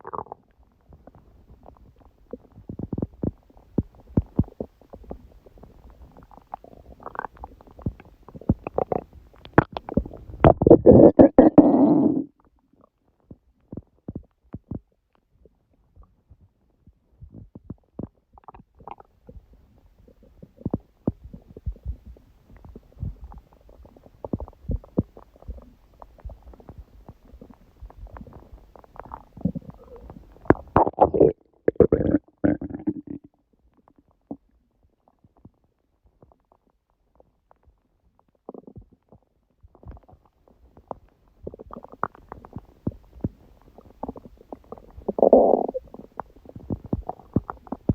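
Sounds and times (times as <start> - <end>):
stomach growling and gurgling: 0.0 - 47.9.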